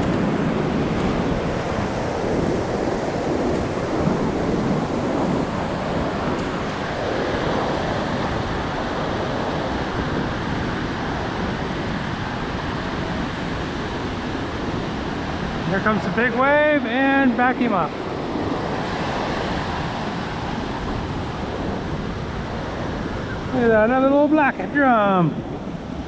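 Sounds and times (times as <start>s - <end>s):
ocean surf breaking on sand: 0.0s - 26.0s
wind buffeting microphone: 0.0s - 26.0s.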